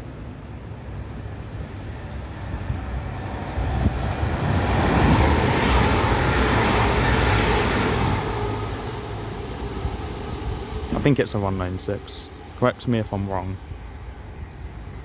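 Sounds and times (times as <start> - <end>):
train rumble and rail noise: 0.0 - 15.0.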